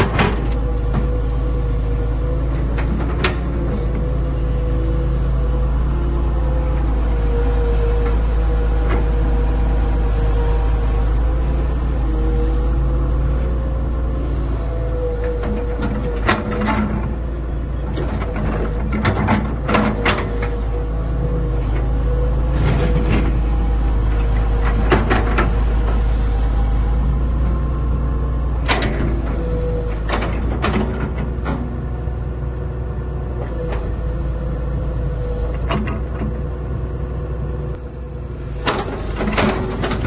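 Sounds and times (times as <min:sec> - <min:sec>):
excavator engine rumbling: 0:00.0 - 0:40.0.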